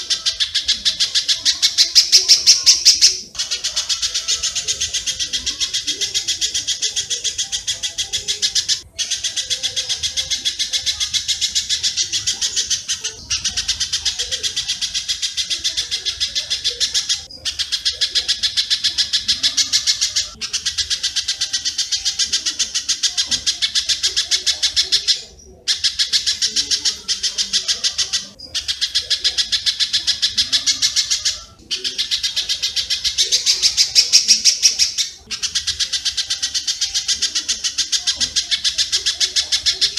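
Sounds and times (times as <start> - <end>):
high rapid bird chirps: 0.0 - 39.9.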